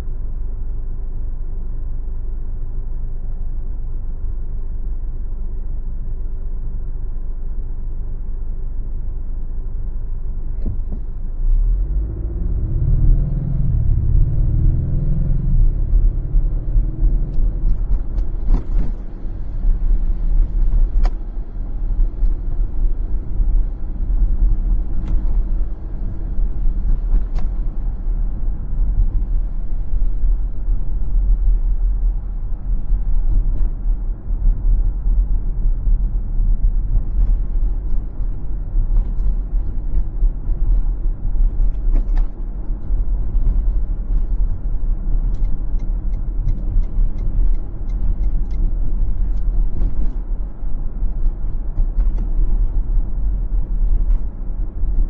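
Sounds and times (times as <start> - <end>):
faint engine hum: 0.0 - 55.0
road and tyre rumble: 0.0 - 55.0.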